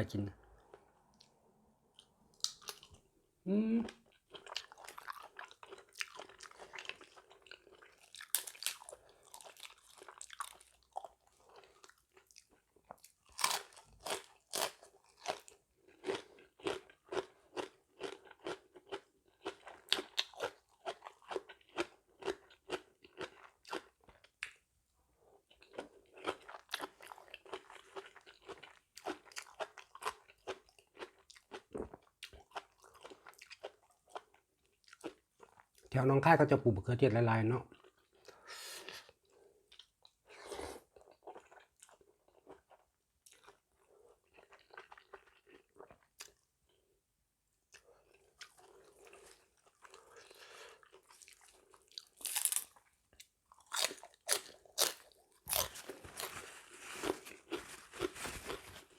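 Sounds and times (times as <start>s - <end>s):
chewing crunchy food: 0.6s - 3.1s, 3.9s - 24.7s, 25.3s - 35.9s, 37.7s - 46.9s, 47.7s - 58.9s.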